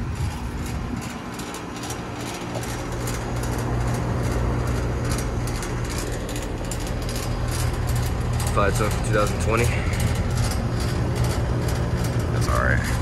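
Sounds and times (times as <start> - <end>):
air conditioner compressor hum: 0.0 - 13.0
air conditioner fan noise: 0.0 - 13.0.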